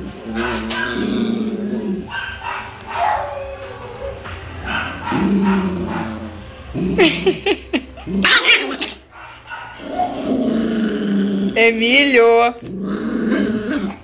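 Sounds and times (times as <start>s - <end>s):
dogs snarling and barking: 0.0s - 12.0s, 12.6s - 14.0s
dogs growling: 0.0s - 14.0s.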